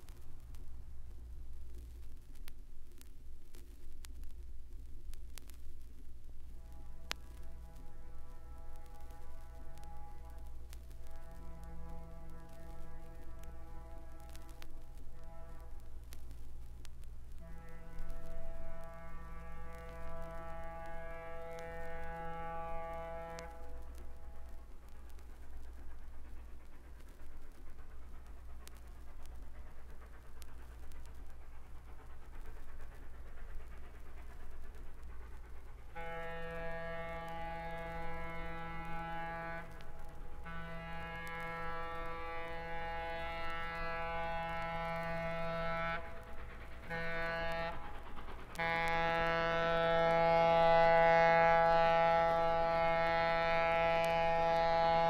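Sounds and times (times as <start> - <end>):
vinyl record clicks: 0.0 - 51.2
locomotive low rumble: 0.0 - 55.0
steam exhaust hissing: 6.4 - 55.0.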